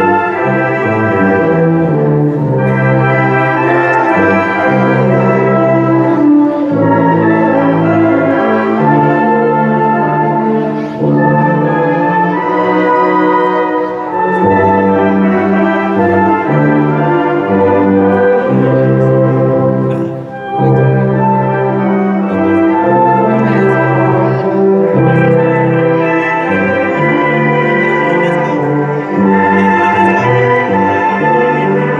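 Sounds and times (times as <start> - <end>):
brass band music: 0.0 - 31.9.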